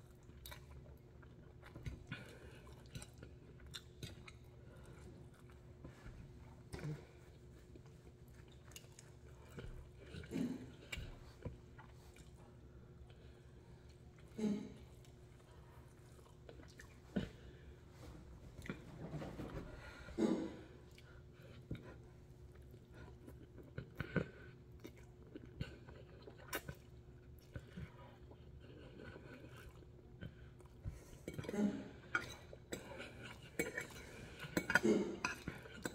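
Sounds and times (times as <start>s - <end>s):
person chewing noodles: 0.0s - 18.9s, 20.5s - 35.9s.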